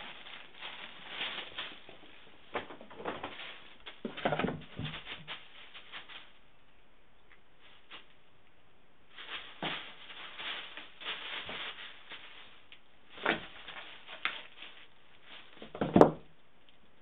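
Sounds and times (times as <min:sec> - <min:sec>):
tissue paper crinkling: 0:00.0 - 0:06.4, 0:07.6 - 0:08.2, 0:09.1 - 0:15.9.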